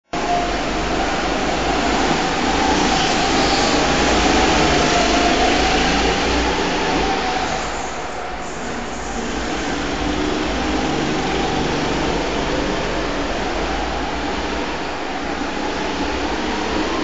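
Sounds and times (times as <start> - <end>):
go-kart engines droning: 0.1 - 17.0.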